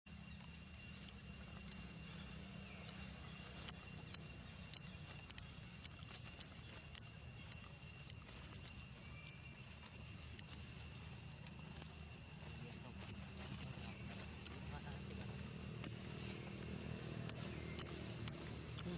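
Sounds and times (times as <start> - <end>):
soft clicks and ticks: 0.2 - 12.2, 13.0 - 18.9.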